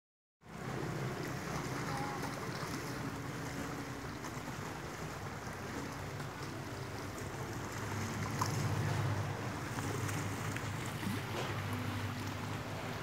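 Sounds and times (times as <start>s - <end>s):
small waves on rocky shore: 0.5s - 13.0s.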